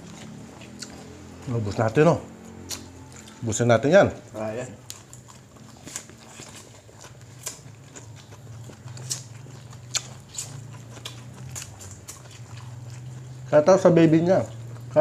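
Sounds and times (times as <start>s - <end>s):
people chewing and lip-smacking: 0.0s - 15.0s.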